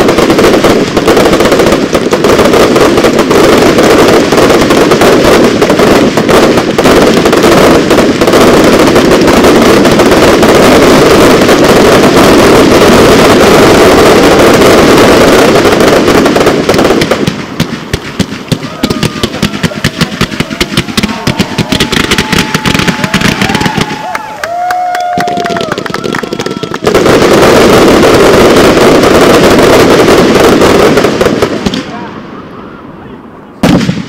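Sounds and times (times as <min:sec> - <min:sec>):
fireworks barrage: 0:00.0 - 0:34.0.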